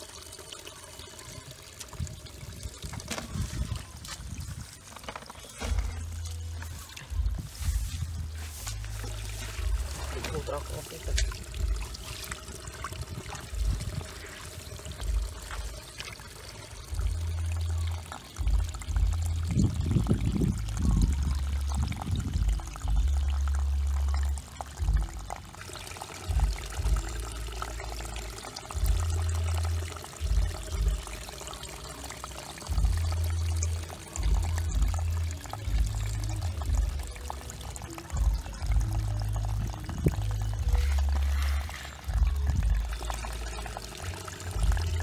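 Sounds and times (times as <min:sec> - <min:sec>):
water pouring and trickling: 0:00.0 - 0:45.0.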